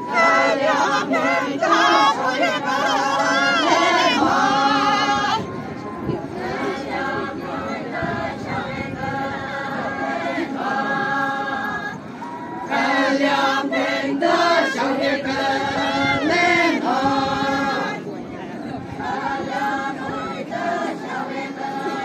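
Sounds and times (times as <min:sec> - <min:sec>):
women chanting in unison: 0:00.0 - 0:05.6, 0:06.2 - 0:18.2, 0:19.0 - 0:22.0.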